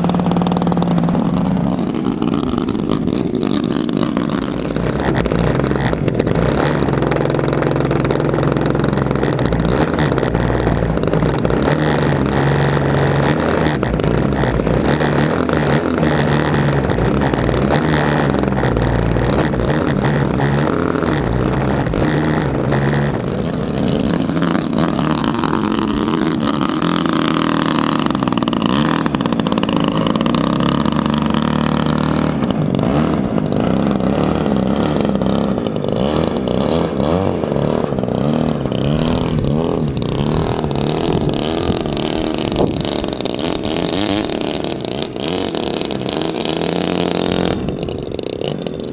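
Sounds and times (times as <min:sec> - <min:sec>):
model plane engine running: 0:00.0 - 0:48.9.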